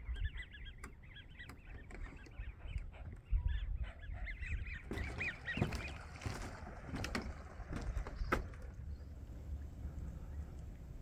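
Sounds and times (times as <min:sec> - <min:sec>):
wind rumble on microphone: 0:00.0 - 0:00.8, 0:01.9 - 0:11.0
distant geese honking: 0:00.3 - 0:11.0.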